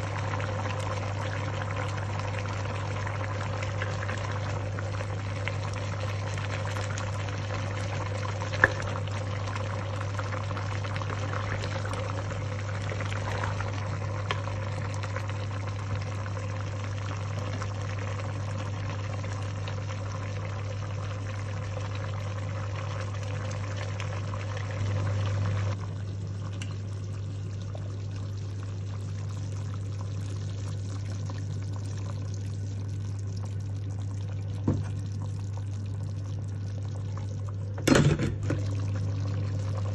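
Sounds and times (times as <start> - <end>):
constant low hum: 0.0 - 39.9
pot boiling and bubbling: 0.0 - 39.9.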